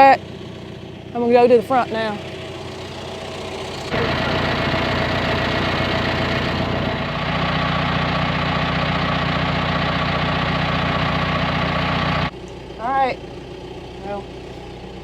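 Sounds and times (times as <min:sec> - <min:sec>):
low hum: 0:00.0 - 0:15.0
tractor engine running: 0:00.0 - 0:15.0.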